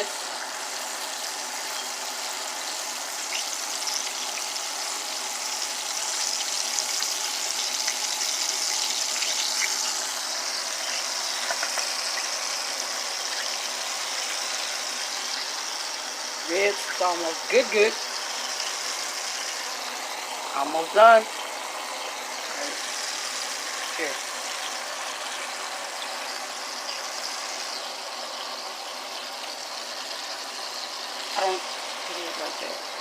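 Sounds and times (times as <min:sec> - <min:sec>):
ribs sizzling in oil: 0:00.0 - 0:33.0.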